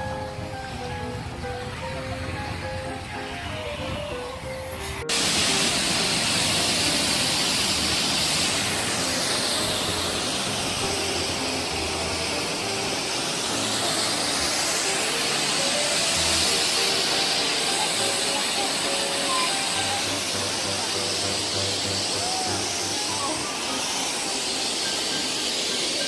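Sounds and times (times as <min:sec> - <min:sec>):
soft background music: 0:00.0 - 0:26.0
waterfall roaring: 0:00.0 - 0:26.0.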